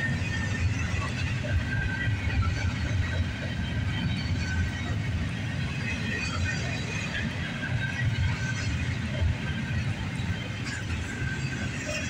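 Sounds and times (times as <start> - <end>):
faint high wheel squeals: 0.0 - 12.0
train wheels rumbling: 0.0 - 12.0.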